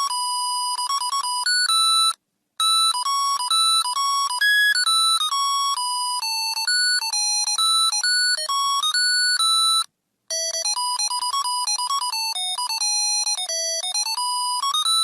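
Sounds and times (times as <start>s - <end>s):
electronic beeping carol tune: 0.0s - 15.0s.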